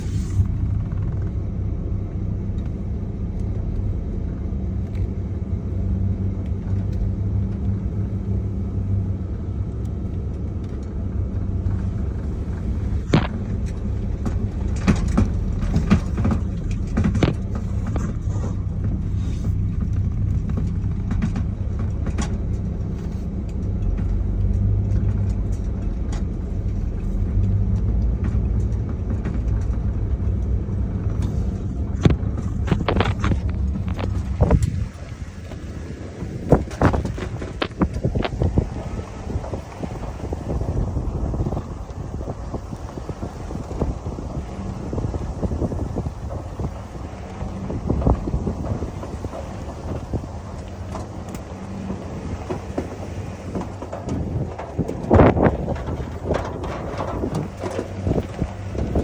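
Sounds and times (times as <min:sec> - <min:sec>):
sharp knocks and rattles: 0:00.0 - 0:08.4, 0:11.5 - 0:59.0
car engine and tyres rumbling: 0:00.0 - 0:59.0.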